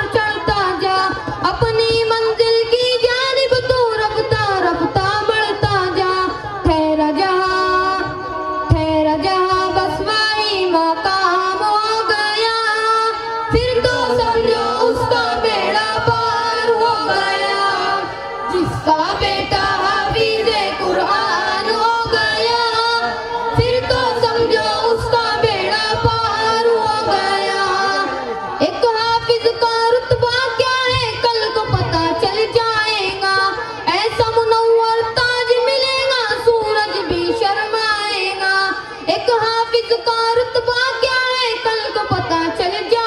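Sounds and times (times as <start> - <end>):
boys singing a devotional song: 0.0 - 43.0.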